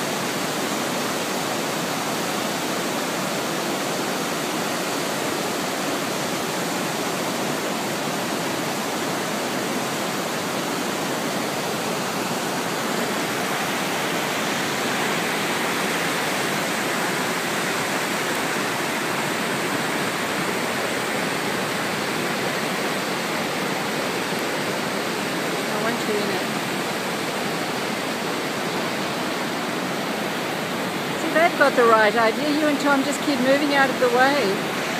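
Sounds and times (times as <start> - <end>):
white water rushing: 0.0 - 34.9.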